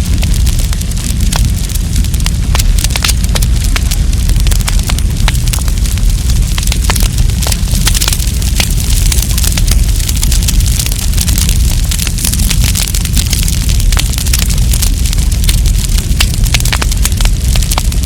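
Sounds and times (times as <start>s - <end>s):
campfire crackling: 0.0s - 18.0s
low rumble of fire: 0.0s - 18.0s
sharp pops and snaps: 0.1s - 18.0s.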